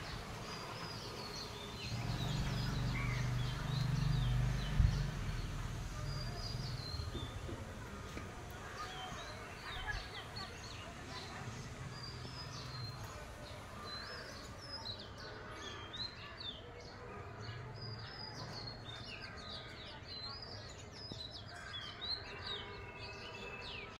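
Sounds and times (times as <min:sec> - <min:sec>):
small birds chirping and twittering: 0:00.0 - 0:24.0.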